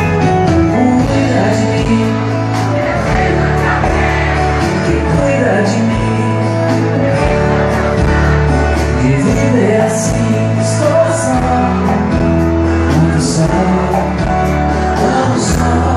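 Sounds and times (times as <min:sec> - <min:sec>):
live band music: 0:00.0 - 0:15.9
person singing: 0:00.0 - 0:15.9
steady bass: 0:00.0 - 0:15.9.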